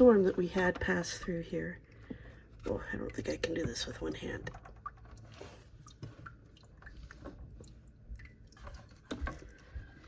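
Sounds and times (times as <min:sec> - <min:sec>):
water dripping: 0:00.0 - 0:10.0.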